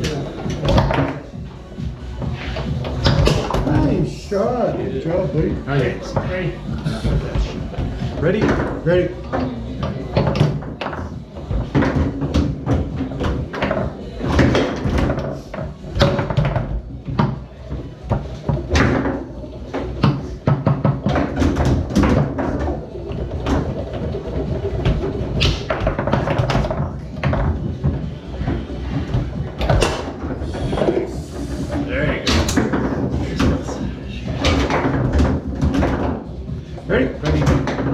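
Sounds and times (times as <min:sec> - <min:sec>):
foosball ball clacking: 0:00.0 - 0:37.9
foosball rods knocking: 0:00.0 - 0:37.9.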